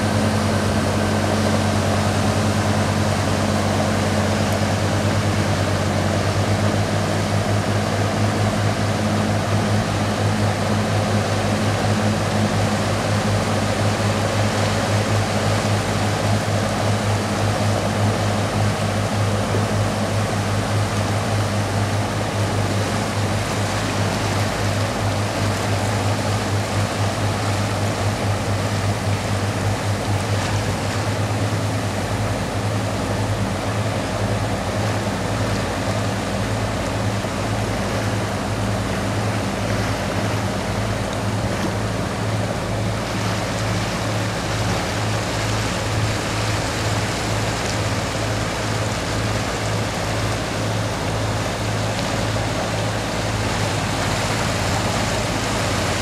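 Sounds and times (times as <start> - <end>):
boat engine throbbing: 0.0 - 56.0
rushing water: 0.0 - 56.0.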